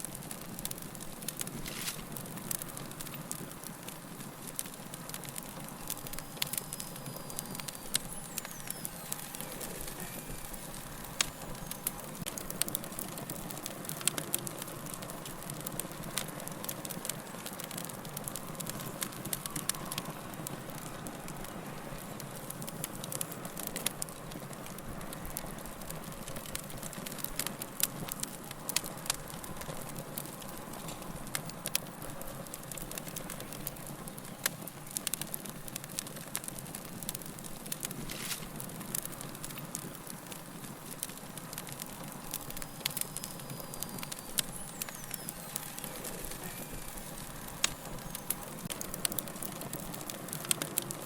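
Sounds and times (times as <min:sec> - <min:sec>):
wood fire crackling and hissing: 0:00.0 - 0:51.0.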